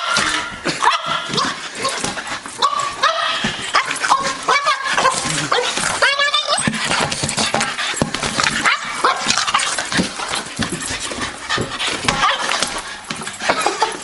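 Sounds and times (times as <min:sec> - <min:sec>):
knocks and scuffs: 0:00.0 - 0:14.0.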